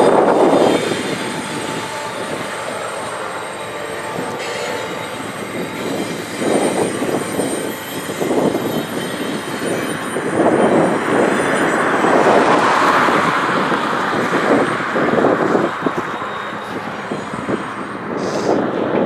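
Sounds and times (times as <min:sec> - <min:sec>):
steel wheels clattering on rail: 0:00.0 - 0:19.0.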